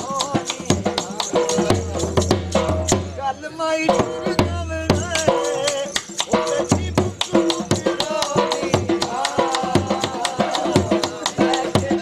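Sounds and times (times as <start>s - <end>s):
dhol drum beat: 0.0s - 12.0s.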